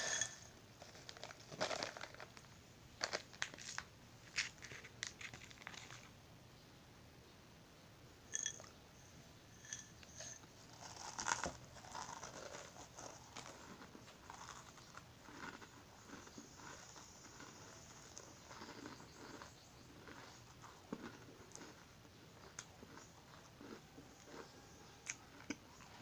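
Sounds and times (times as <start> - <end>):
crackers crunched while chewing: 0.0 - 6.1, 9.7 - 26.0.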